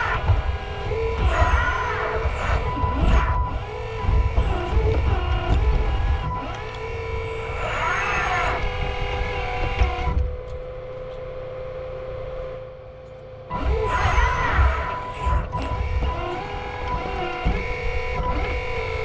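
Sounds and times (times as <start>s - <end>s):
hydraulic pump whine: 0.0s - 19.0s.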